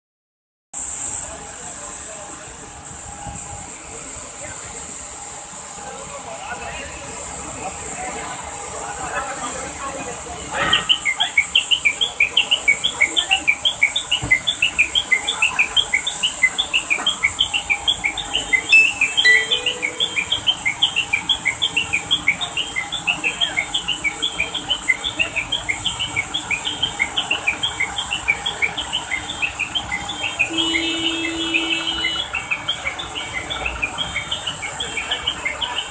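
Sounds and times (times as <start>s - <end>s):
steady high hiss: 0.8s - 32.3s.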